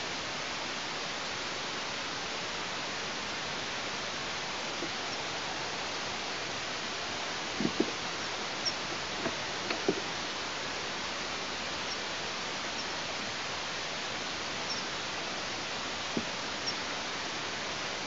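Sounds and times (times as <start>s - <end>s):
microphone hiss: 0.0s - 18.0s.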